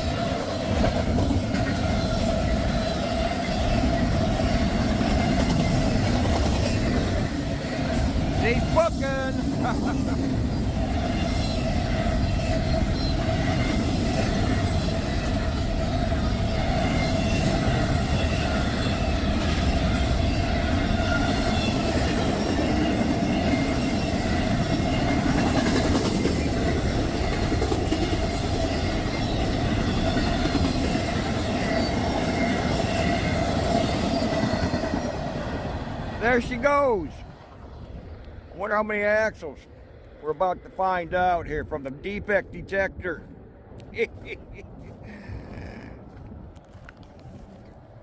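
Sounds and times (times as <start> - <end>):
freight train wheels rumbling: 0.0 - 48.0.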